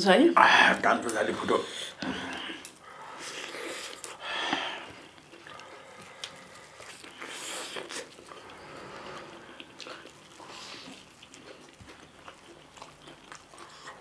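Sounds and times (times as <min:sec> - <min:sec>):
people chewing food: 0:00.4 - 0:14.0.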